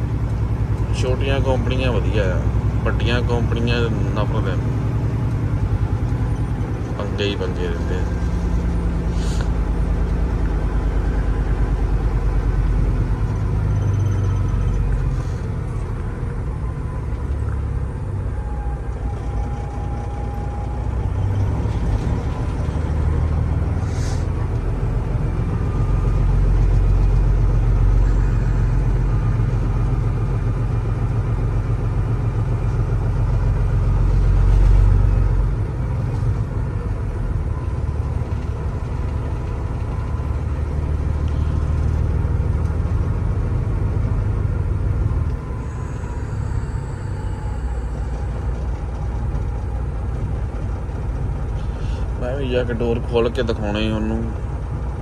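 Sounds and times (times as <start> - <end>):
diesel truck engine rumbling: 0.0 - 55.0.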